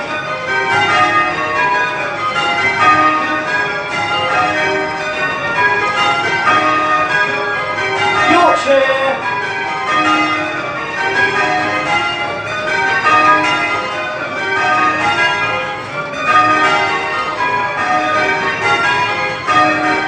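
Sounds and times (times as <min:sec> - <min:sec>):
church bells change ringing: 0:00.0 - 0:20.0.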